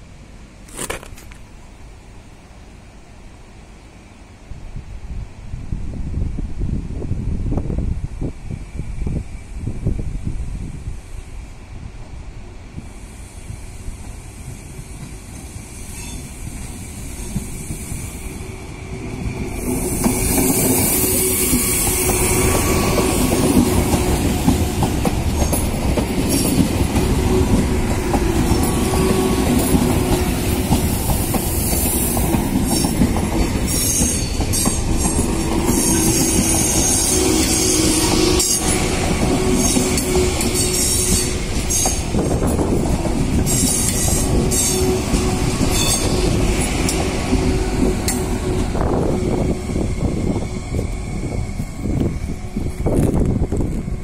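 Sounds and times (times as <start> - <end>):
train hum: 0.0 - 54.0
train wheels on rails: 6.2 - 54.0.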